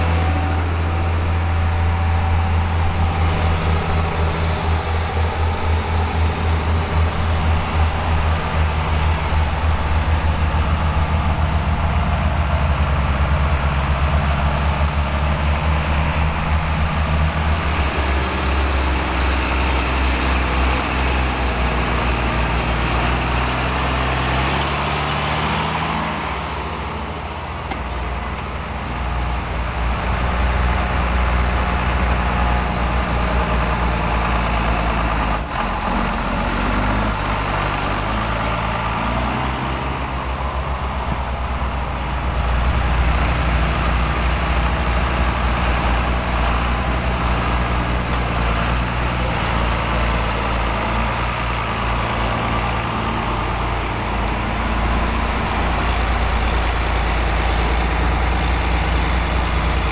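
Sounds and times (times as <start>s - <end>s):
tractor diesel engines working: 0.0s - 59.9s.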